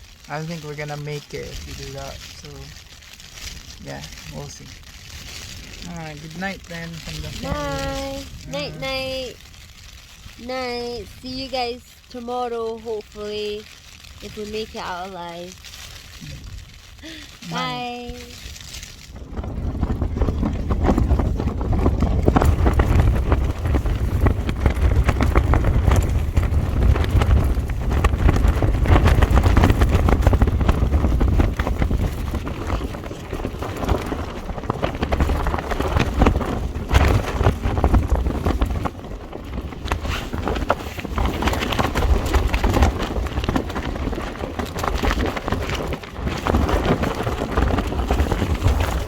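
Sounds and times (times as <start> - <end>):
tent fabric flapping: 0.0 - 49.0
strong wind gusting: 5.2 - 9.6, 10.3 - 13.6, 16.2 - 49.0.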